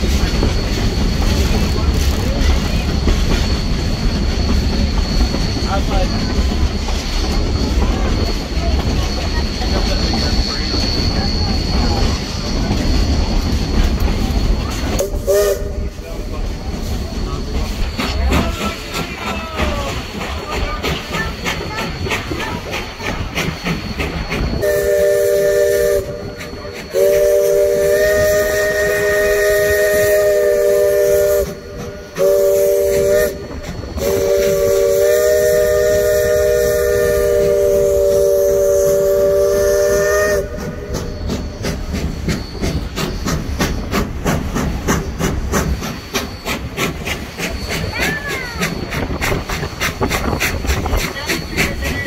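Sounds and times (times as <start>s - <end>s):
steam locomotive chime whistle: 0.0s - 52.0s
train clattering: 0.0s - 52.0s.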